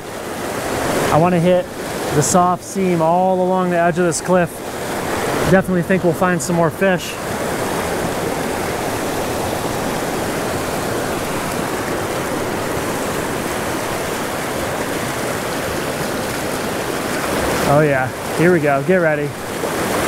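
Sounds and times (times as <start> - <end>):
stream water rushing over rocks: 0.0 - 20.0.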